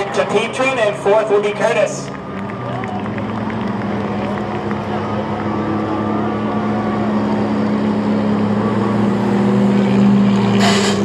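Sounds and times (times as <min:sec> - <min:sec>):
truck engines droning: 0:00.0 - 0:11.0.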